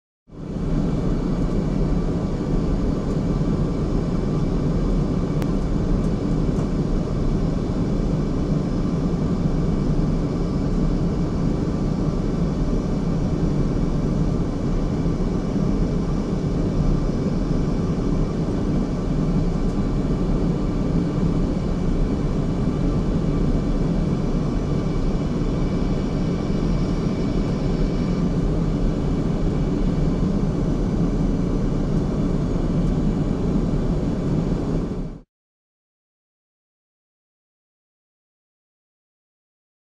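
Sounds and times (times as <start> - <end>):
aircraft cabin rumble and hum: 0.3 - 35.3.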